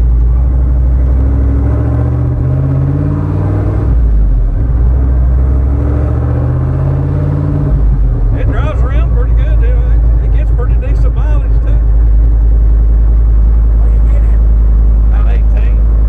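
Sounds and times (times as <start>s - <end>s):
engine accelerating and shifting gear: 0.0s - 16.0s.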